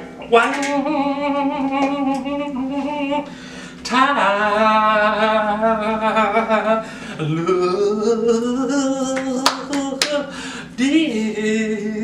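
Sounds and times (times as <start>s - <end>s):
man singing held syllables: 0.2s - 12.0s.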